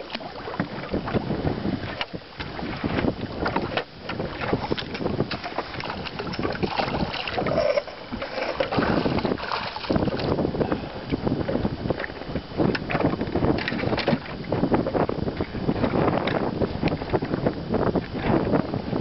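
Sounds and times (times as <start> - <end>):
water lapping against boat: 0.0 - 19.0
wind buffeting microphone: 0.0 - 19.0.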